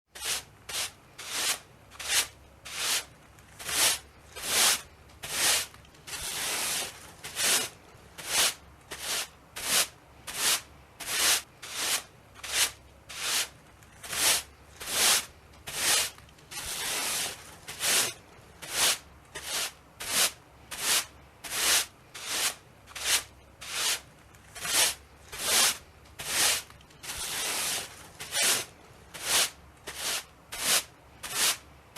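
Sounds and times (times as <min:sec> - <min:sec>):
straw broom sweeping: 0:00.2 - 0:31.7.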